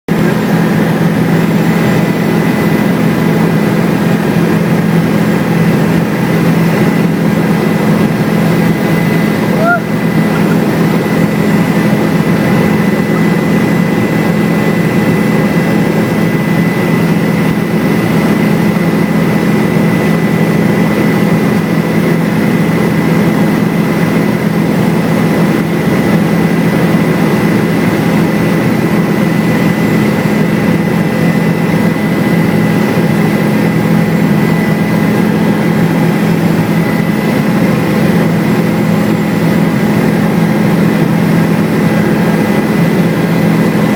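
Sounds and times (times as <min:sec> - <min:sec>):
helicopter engine and rotors: 0:00.1 - 0:43.9.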